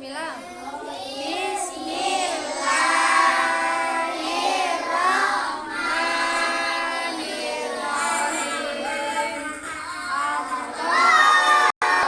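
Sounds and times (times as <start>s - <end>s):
children chanting in unison: 0.4s - 12.0s.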